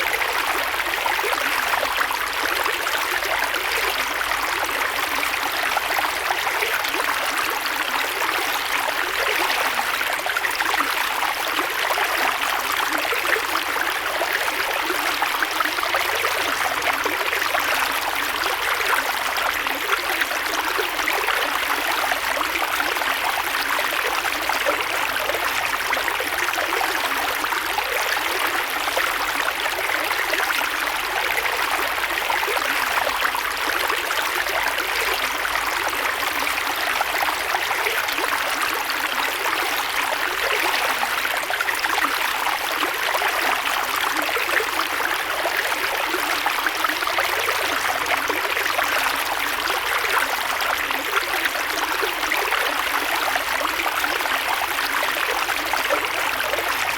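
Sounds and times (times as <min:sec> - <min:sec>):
creek water babbling over stones: 0:00.0 - 0:56.9.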